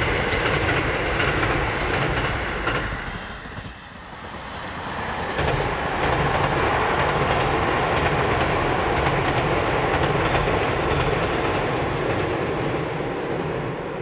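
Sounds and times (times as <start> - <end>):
train rumbling over steel bridge: 0.0 - 14.0.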